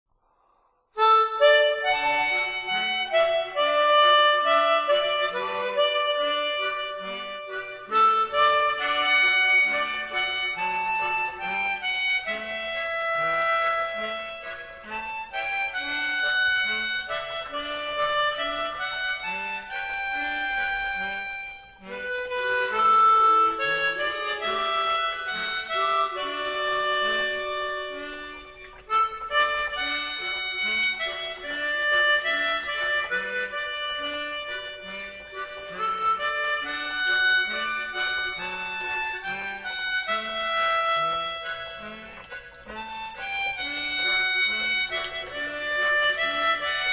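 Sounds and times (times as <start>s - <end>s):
melody of held notes: 1.0s - 46.9s.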